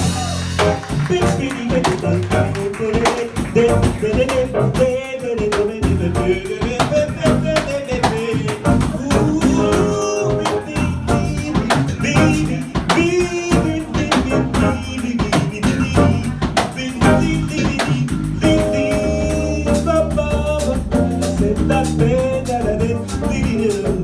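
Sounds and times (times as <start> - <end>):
jazz combo playing: 0.0 - 24.0.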